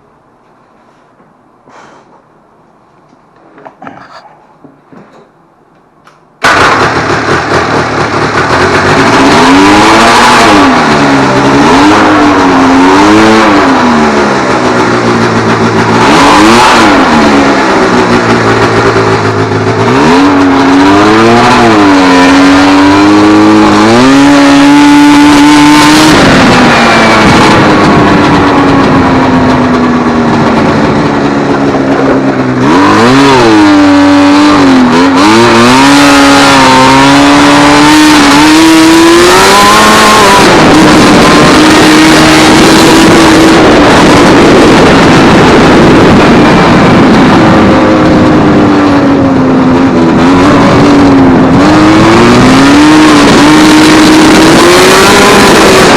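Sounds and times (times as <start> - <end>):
two-stroke engine revving: 6.4 - 55.9.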